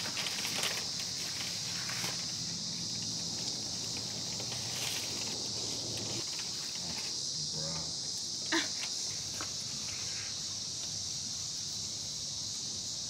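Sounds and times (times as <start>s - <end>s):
faint rustles: 0.0s - 11.0s
insects buzzing: 0.0s - 13.0s.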